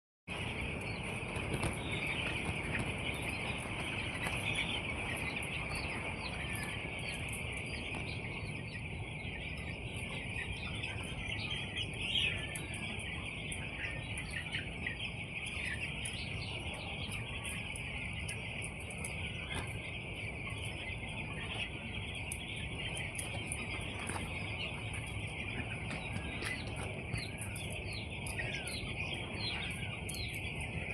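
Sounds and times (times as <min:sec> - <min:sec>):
chicks peeping: 0:00.3 - 0:30.9.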